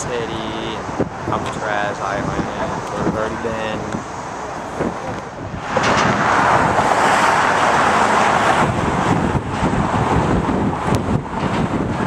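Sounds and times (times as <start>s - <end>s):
cars passing on a roadway: 0.0s - 12.0s.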